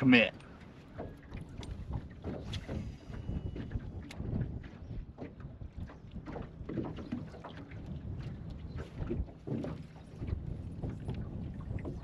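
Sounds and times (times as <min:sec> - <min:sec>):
water slapping against boat hull: 0:00.0 - 0:12.0
wind buffeting microphone: 0:00.0 - 0:12.0.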